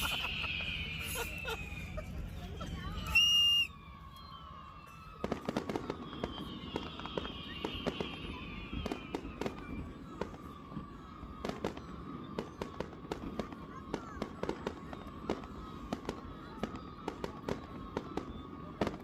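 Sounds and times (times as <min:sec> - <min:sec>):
fireworks bangs and crackles: 0:00.0 - 0:19.0
fireworks falling whistles: 0:00.0 - 0:19.0.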